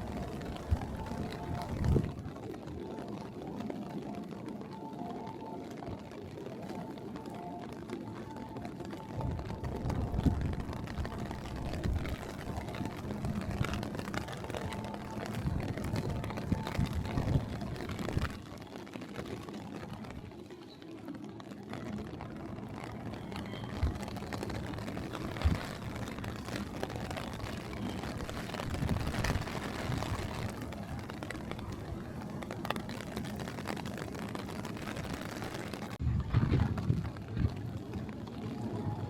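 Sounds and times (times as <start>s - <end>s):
faint voices: 0.0s - 39.0s
traffic noise: 0.0s - 39.0s.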